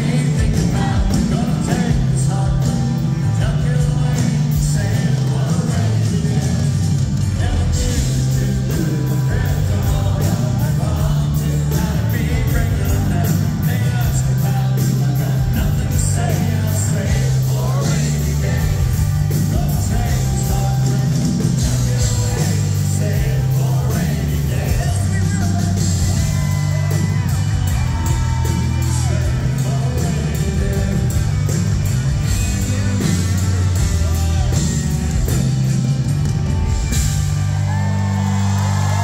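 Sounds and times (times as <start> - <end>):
person singing: 0.0 - 35.4
heavy bass line: 0.0 - 39.0
steady drum beat: 0.0 - 39.0.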